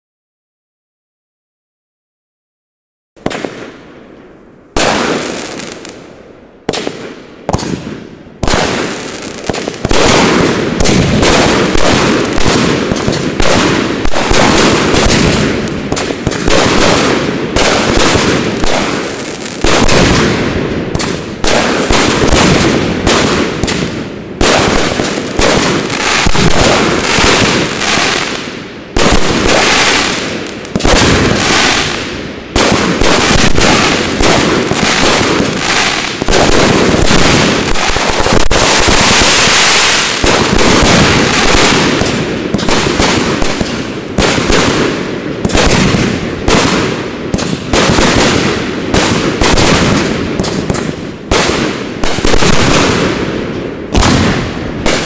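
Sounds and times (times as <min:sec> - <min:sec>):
fireworks bangs and crackles: 0:03.2 - 0:55.0.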